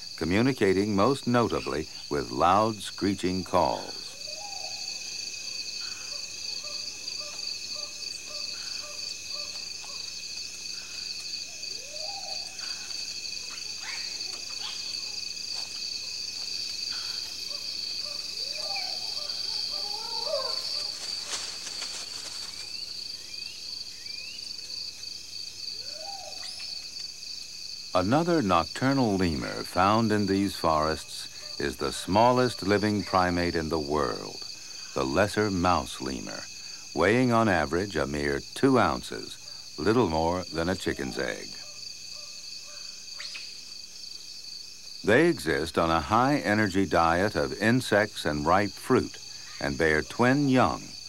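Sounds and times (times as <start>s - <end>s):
crickets trilling: 0.0s - 51.0s.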